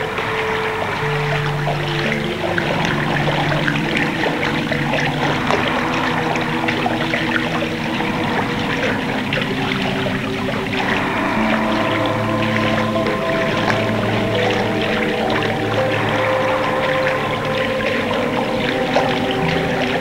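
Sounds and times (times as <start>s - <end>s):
low held musical tones: 0.0s - 20.0s
trickling water: 0.0s - 20.0s.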